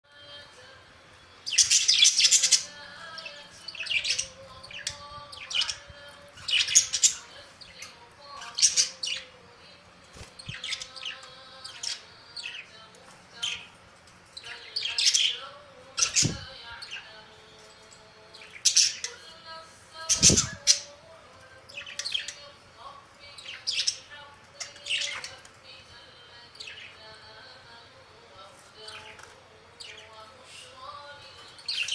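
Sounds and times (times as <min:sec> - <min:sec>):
faint steady hum: 0:00.1 - 0:31.9
small birds chirping: 0:00.1 - 0:31.9.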